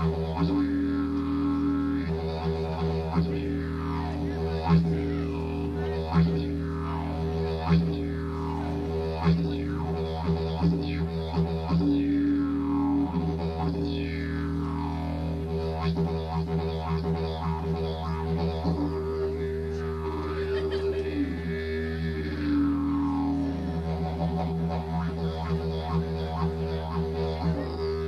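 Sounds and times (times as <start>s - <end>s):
didgeridoo drone: 0.0s - 28.0s.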